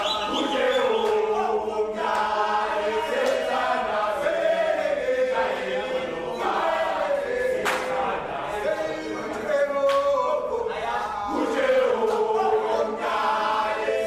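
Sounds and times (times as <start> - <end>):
men singing in chorus: 0.0 - 14.0.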